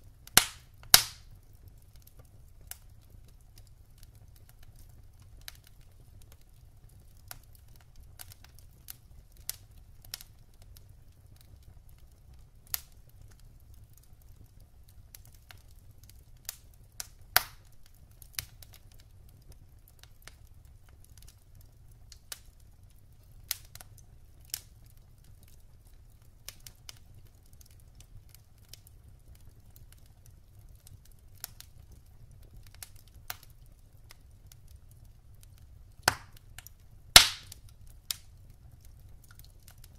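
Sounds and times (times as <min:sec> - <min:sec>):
low steady fire rumble: 0:00.0 - 0:39.9
wood fire crackling and popping: 0:00.0 - 0:39.9.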